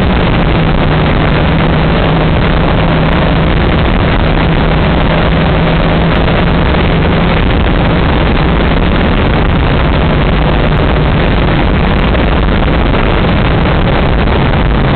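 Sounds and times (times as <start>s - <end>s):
car engine drone: 0.0s - 14.9s
wind and road noise: 0.0s - 14.9s.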